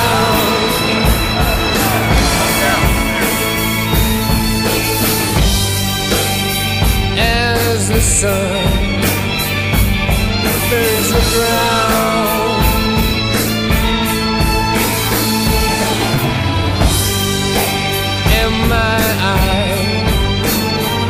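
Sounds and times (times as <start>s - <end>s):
song with drums bass and vocals: 0.0s - 20.6s.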